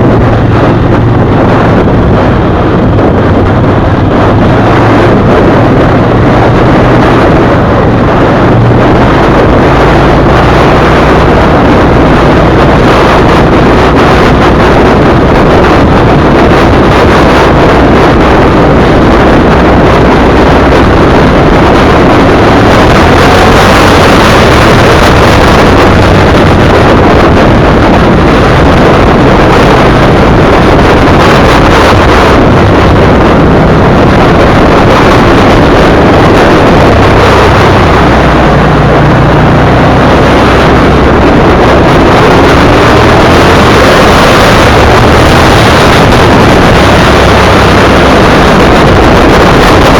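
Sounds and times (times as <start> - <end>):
motorcycle engine at speed: 0.0 - 49.9
wind rush on microphone: 0.0 - 49.9.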